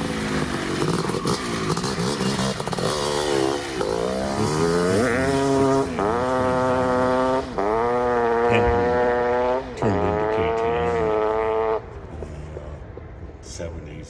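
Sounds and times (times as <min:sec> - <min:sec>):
two-stroke motorcycle engine revving: 0:00.0 - 0:11.9.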